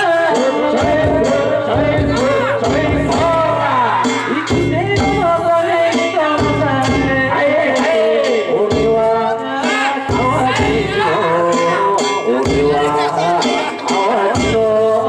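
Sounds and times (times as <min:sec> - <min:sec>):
drum beating: 0:00.0 - 0:15.0
voices chanting: 0:00.0 - 0:15.0.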